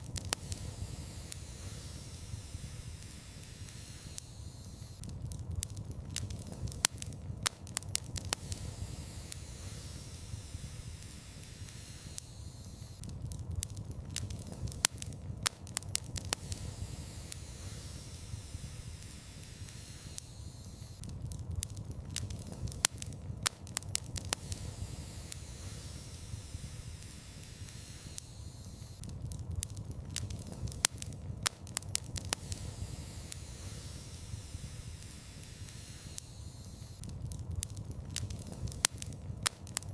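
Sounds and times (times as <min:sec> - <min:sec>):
low rumble and hiss of fire: 0:00.0 - 0:39.9
wood fire crackling and popping: 0:00.0 - 0:39.9.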